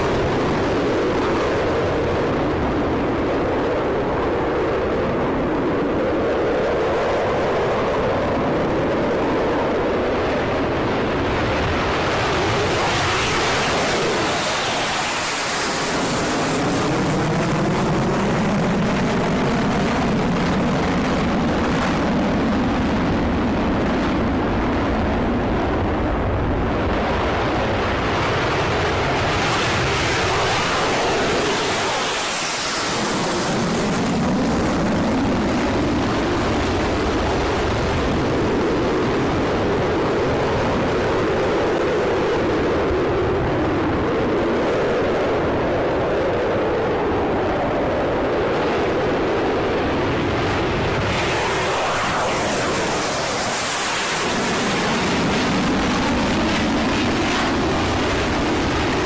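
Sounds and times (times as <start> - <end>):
jet engines roaring on take-off: 0.0 - 59.0.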